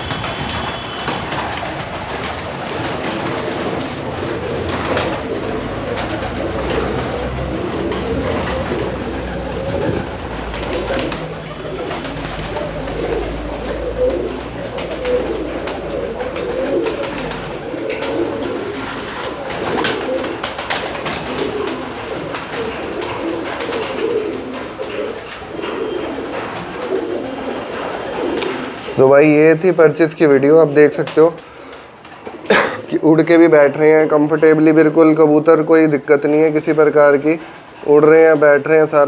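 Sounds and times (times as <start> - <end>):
pigeon wings clapping and flapping: 0.0 - 29.4, 30.8 - 32.6, 36.4 - 39.0
pigeons cooing: 0.0 - 39.0.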